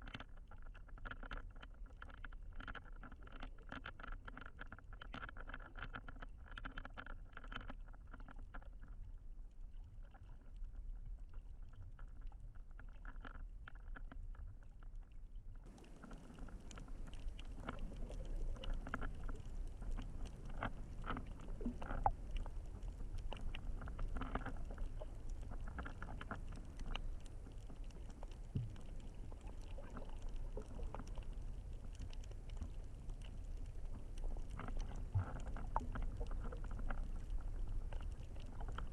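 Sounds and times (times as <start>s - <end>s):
muffled underwater rumble: 0.0s - 38.9s
underwater clicks and crackles: 0.0s - 38.9s.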